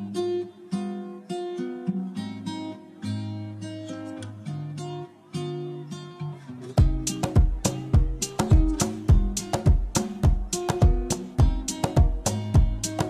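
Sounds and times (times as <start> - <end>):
plucked instrumental melody: 0.0 - 13.0.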